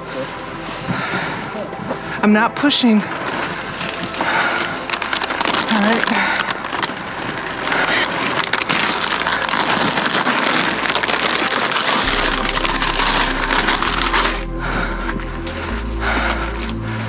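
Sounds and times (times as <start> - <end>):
plastic chip bags crinkling: 2.7 - 17.0.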